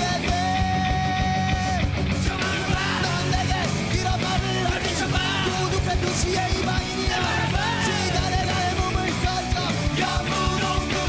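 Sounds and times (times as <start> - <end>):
bass guitar: 0.0 - 11.0
driving drum beat: 0.0 - 11.0
electric guitars: 0.0 - 11.0
men singing loudly: 0.0 - 11.0.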